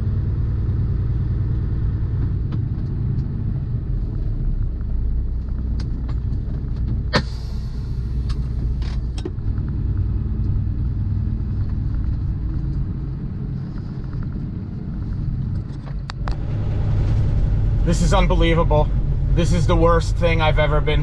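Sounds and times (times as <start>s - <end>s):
road noise inside cab: 0.0s - 21.0s
truck engine rumble: 0.0s - 21.0s.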